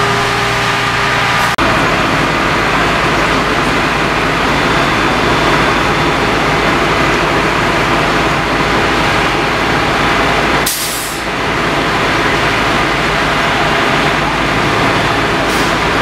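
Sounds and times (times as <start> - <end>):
fire truck engine running: 0.0 - 16.0.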